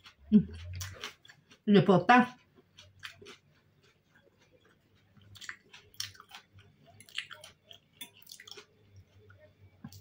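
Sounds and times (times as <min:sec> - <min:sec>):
wet chewing and mouth smacks: 0:00.0 - 0:10.0.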